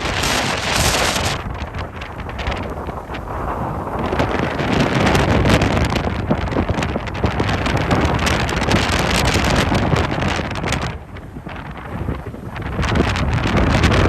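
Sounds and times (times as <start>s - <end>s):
wind gusting across microphone: 0.0s - 14.0s.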